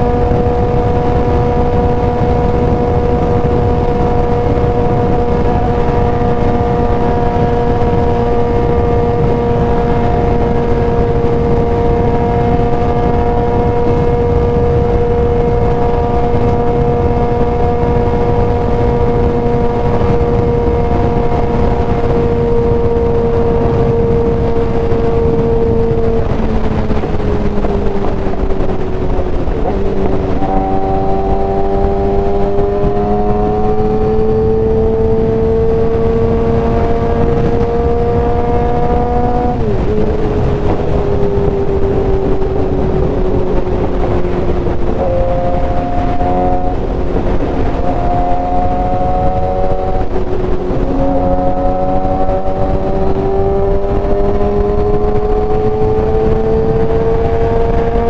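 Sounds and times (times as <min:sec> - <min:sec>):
motorcycle engine cruising: 0:00.0 - 0:58.0
rushing wind: 0:00.0 - 0:58.0.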